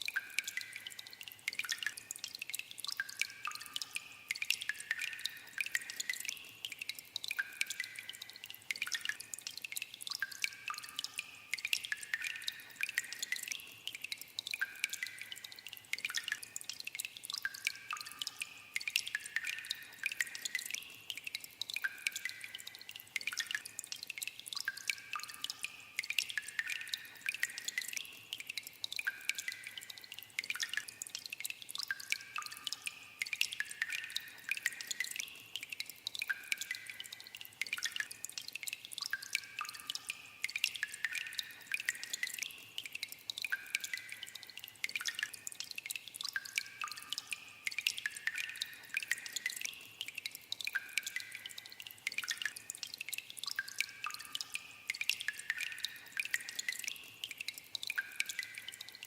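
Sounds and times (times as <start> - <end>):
water dripping in a cave: 0.0 - 59.0.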